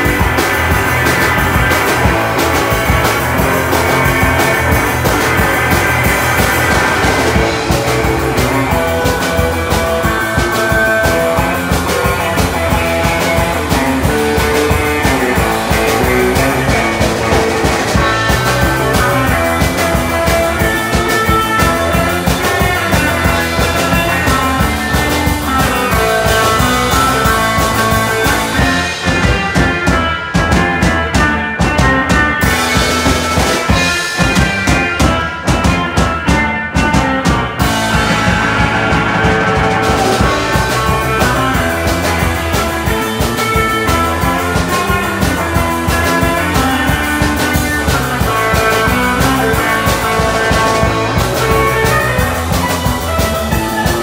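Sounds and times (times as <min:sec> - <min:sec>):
bass guitar: 0:00.0 - 0:54.0
drum kit fast beat: 0:00.0 - 0:54.0
electric guitar: 0:00.0 - 0:54.0.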